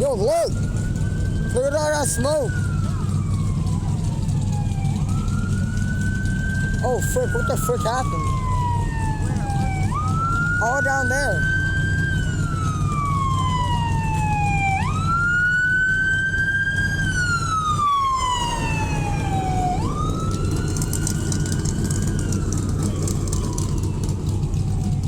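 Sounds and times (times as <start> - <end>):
emergency siren wailing: 0.0 - 25.0.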